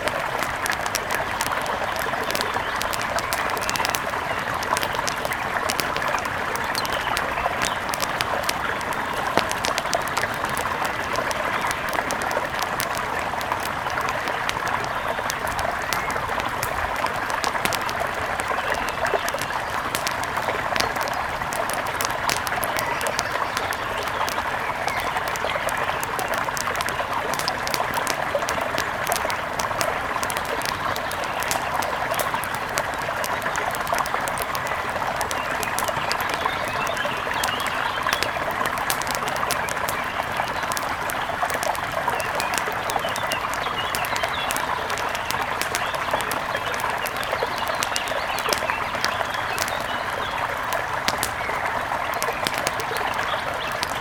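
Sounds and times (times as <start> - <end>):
sharp ticks and pops: 0.0 - 54.0
forest birds chirping: 0.1 - 54.0.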